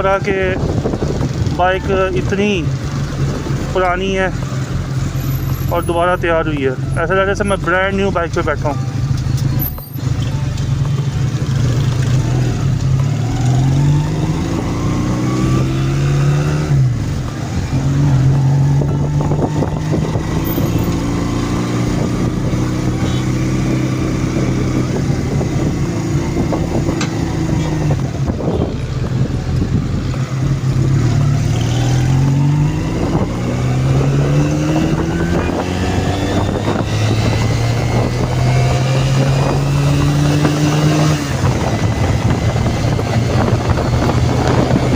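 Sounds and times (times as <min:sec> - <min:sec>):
motorcycle engine shifting gears: 0:00.0 - 0:44.9.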